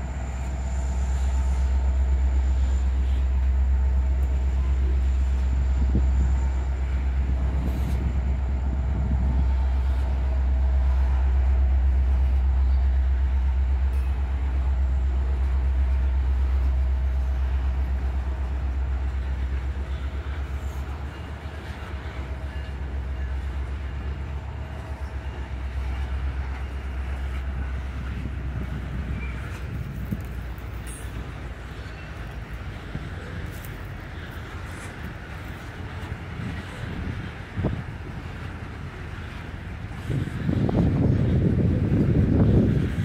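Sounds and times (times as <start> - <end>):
freight train cars rumbling: 0.0 - 43.0.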